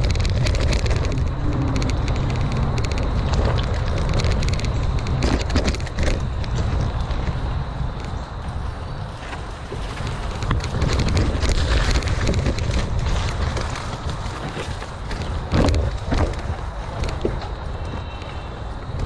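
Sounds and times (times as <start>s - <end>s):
bike rattling over rough trail: 0.0s - 19.0s
wind buffeting microphone: 0.0s - 19.0s.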